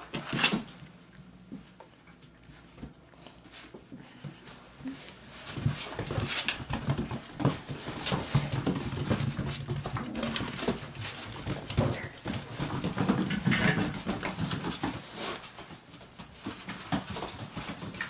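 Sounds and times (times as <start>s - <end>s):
paws scratching on floor: 0.0s - 18.0s.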